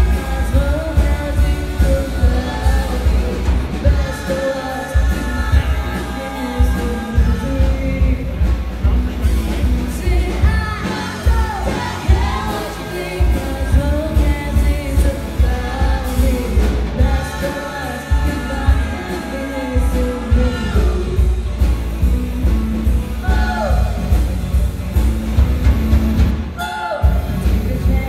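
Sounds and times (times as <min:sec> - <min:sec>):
woman singing: 0:00.0 - 0:08.7, 0:09.6 - 0:24.1, 0:26.6 - 0:28.0
live rock band playing: 0:00.0 - 0:28.0.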